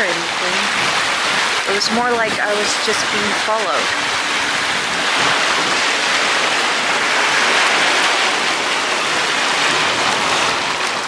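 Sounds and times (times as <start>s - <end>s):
lake waves washing on shore: 0.0s - 11.0s.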